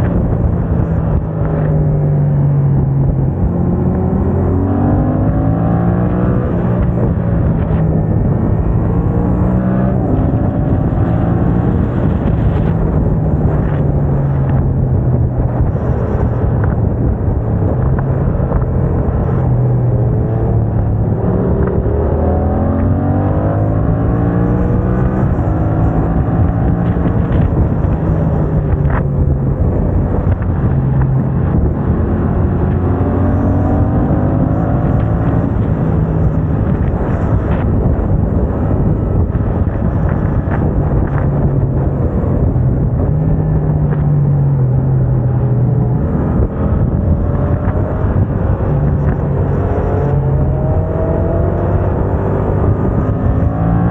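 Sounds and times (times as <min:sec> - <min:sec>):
motorcycle engine revving: 0:00.0 - 0:44.1, 0:44.7 - 0:53.9.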